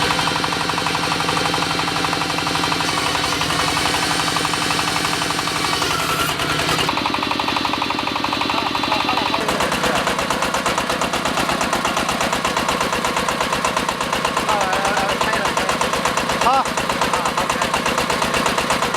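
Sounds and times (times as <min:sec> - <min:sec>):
diesel engine pulsing under load: 0:00.0 - 0:18.9.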